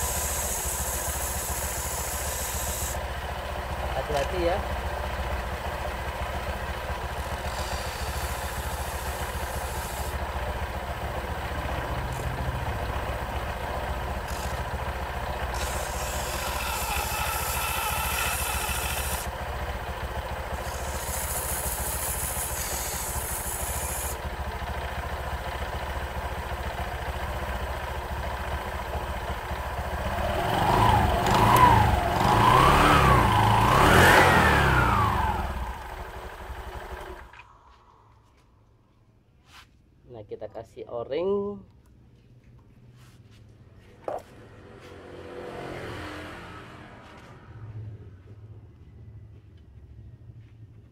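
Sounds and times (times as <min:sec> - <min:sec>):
scooter engine idling and revving: 0:00.0 - 0:38.4, 0:42.6 - 0:50.9.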